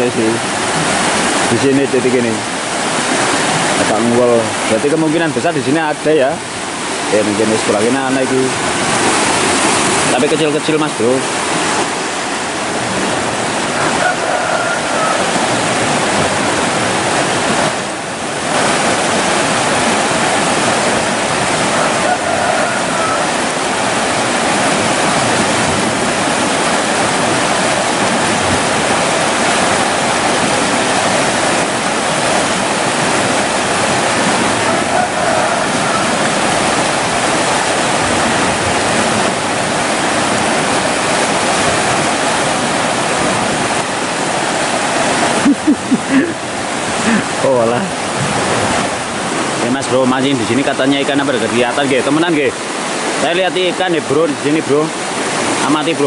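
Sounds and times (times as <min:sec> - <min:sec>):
water rushing down a canal: 0:00.0 - 0:56.0.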